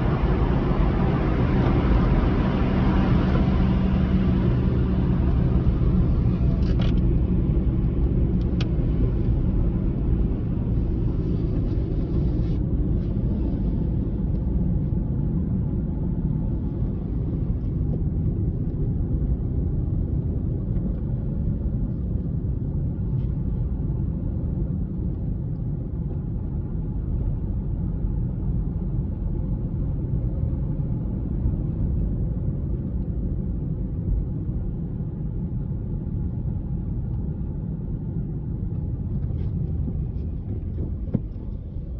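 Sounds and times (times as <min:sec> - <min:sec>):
car driving: 0:00.0 - 0:41.9.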